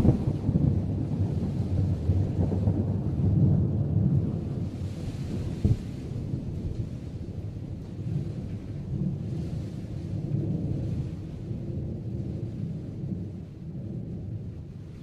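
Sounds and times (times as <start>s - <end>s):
faint rain hiss: 0.0s - 15.0s
thunder rumbling: 0.0s - 15.0s.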